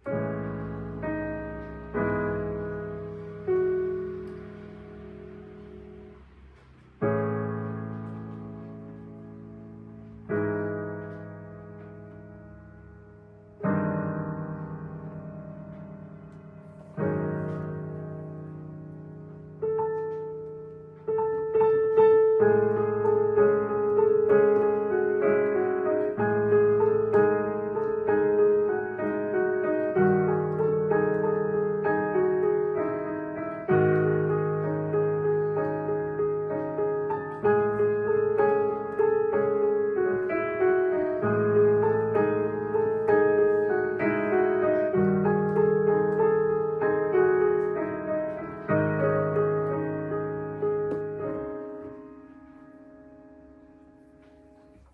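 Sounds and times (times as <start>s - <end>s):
solo piano music: 0.0s - 54.9s.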